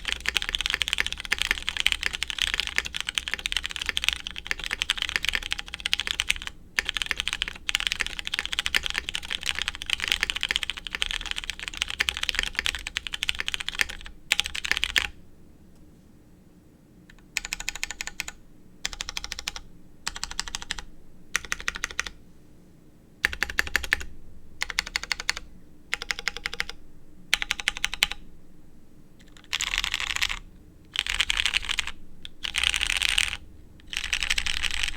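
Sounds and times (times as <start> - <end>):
mechanical keyboard typing: 0.0 - 15.1, 17.1 - 22.2, 23.2 - 26.8, 27.4 - 28.2, 29.2 - 34.9.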